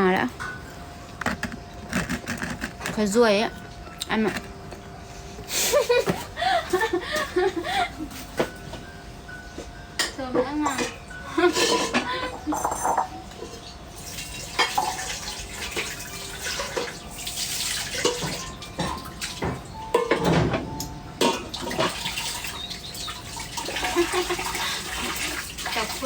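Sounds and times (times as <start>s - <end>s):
pots and pans clinking: 0.0s - 4.9s, 5.7s - 26.0s.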